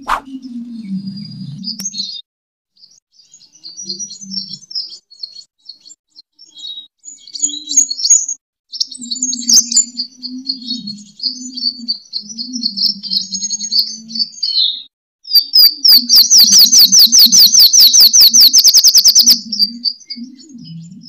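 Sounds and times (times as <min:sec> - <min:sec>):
birds chirping and twittering: 0:00.0 - 0:02.2, 0:02.8 - 0:21.0.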